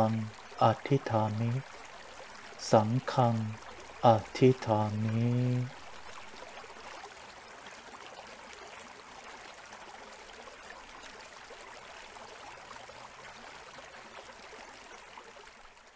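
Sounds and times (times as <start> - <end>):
trickling stream water: 0.0 - 15.9.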